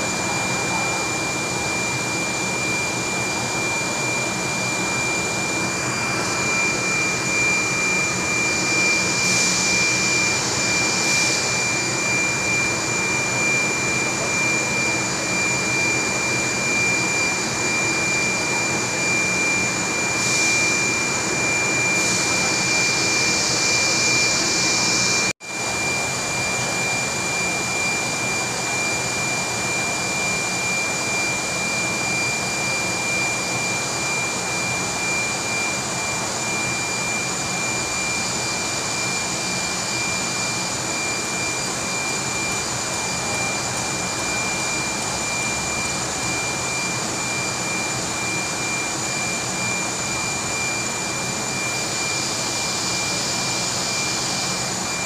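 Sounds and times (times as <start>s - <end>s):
industrial machinery rush and whine: 0.0s - 55.0s.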